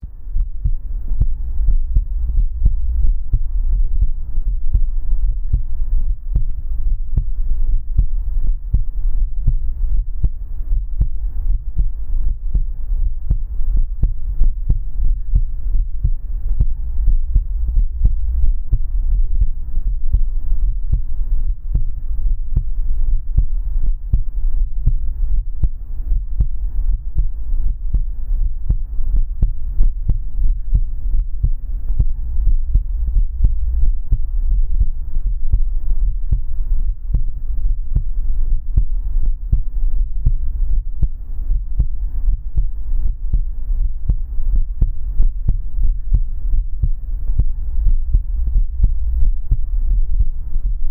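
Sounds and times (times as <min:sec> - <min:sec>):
heartbeat thumps: 0:00.0 - 0:50.9
low hum: 0:00.0 - 0:50.9.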